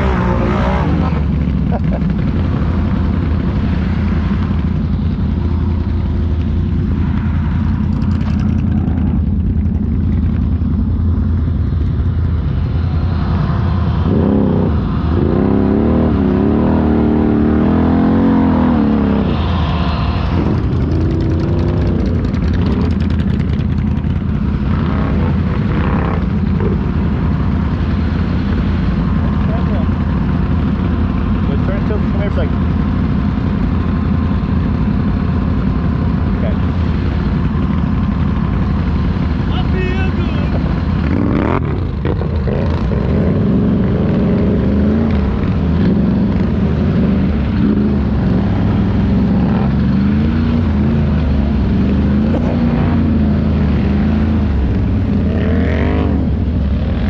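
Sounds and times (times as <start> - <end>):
atv engine revving: 0.0 - 11.5, 12.4 - 57.0
atv engine running: 0.0 - 57.0.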